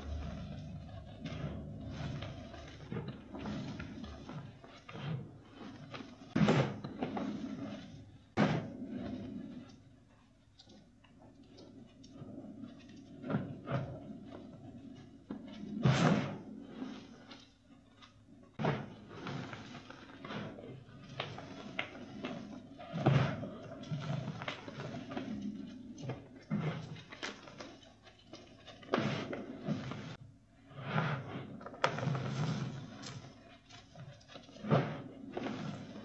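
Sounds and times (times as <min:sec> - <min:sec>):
chalk crunching and crumbling: 0:00.0 - 0:30.2, 0:30.8 - 0:36.0.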